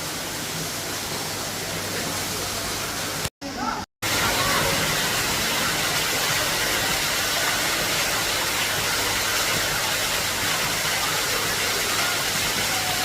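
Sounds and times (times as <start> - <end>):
water falling into pond: 0.0 - 3.3, 4.0 - 13.0.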